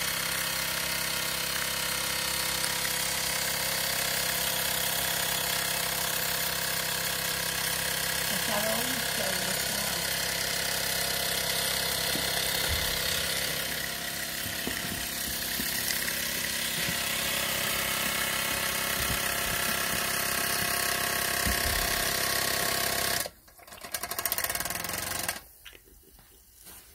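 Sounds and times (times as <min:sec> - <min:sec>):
model steam engine running fast: 0:00.0 - 0:23.3, 0:24.0 - 0:25.4.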